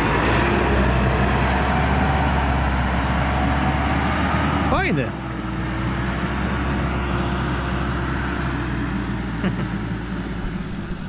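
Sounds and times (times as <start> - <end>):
tractor engines droning: 0.0 - 11.0.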